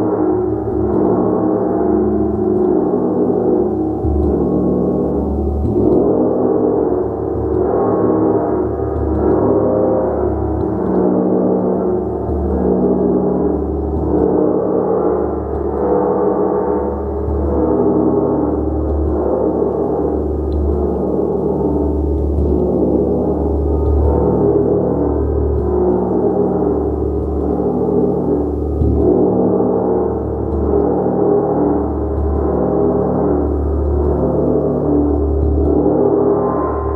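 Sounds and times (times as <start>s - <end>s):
deep hum: 0.0s - 36.9s.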